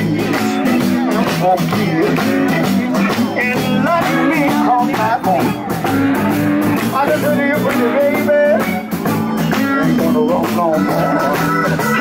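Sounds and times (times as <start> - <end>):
electric guitar: 0.0 - 12.0
live blues band playing: 0.0 - 12.0.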